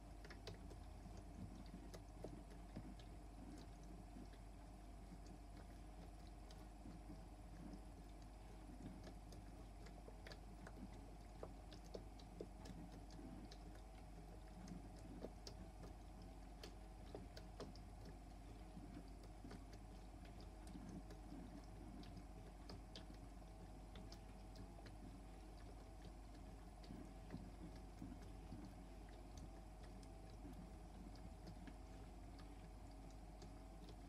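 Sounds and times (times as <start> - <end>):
light ticks and clicks: 0.0 - 34.0.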